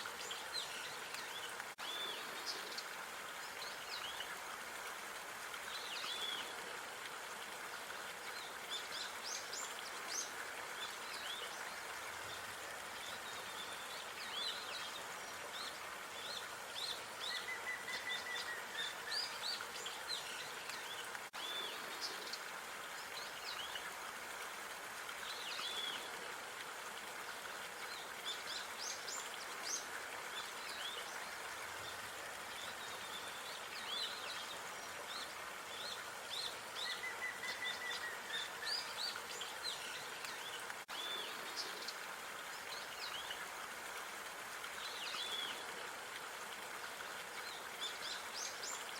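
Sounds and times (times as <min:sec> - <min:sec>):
outdoor park ambience hiss: 0:00.0 - 0:48.9.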